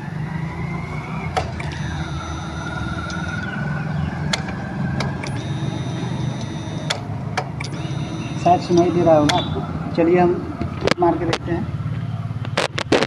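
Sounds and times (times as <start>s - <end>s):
motorcycle motor drone with whine: 0.0s - 13.0s
sharp clicks: 1.2s - 9.6s, 10.6s - 13.0s.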